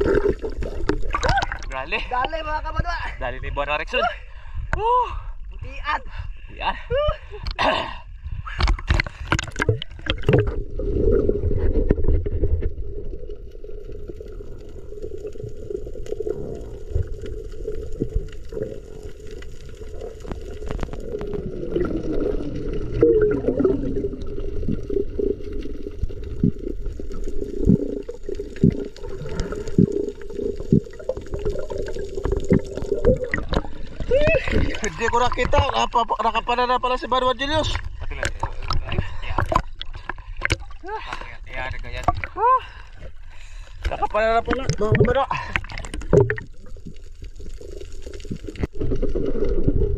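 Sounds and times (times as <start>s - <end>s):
water splashing: 0.0s - 2.7s, 8.5s - 36.4s, 37.5s - 49.9s.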